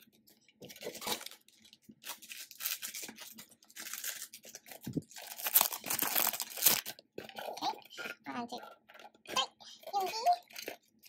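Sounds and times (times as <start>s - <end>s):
plastic wrapping crinkling and tearing: 0.0s - 11.0s.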